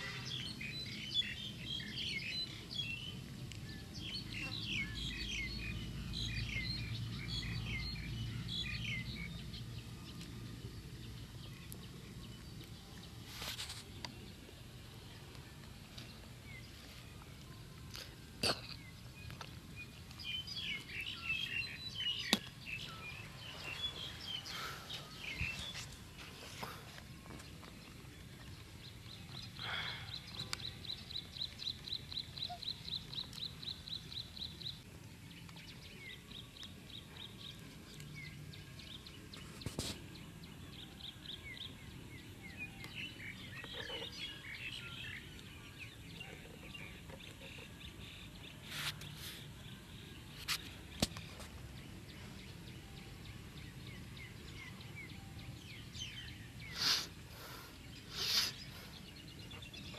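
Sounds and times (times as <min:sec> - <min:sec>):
birdsong: 0:00.0 - 0:59.9.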